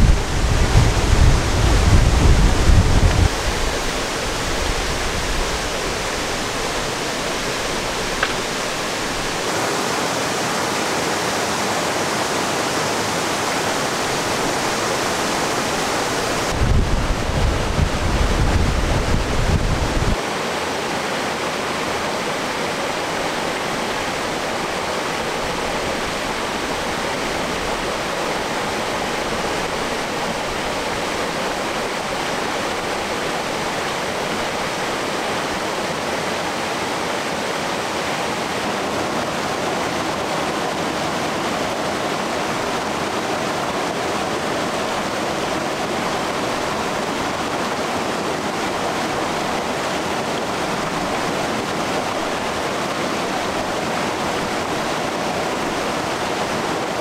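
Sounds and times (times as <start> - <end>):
stream rushing water: 0.0 - 57.0.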